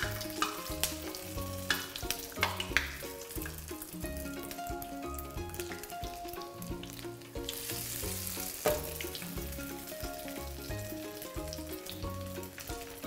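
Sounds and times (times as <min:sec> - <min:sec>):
background music: 0:00.0 - 0:13.0
florets deep-frying in hot oil: 0:00.0 - 0:13.0.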